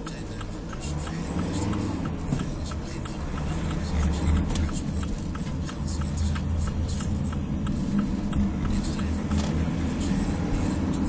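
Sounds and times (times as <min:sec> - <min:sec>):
engine and tyre rumble: 0:00.0 - 0:11.0
light ticking: 0:00.0 - 0:11.0.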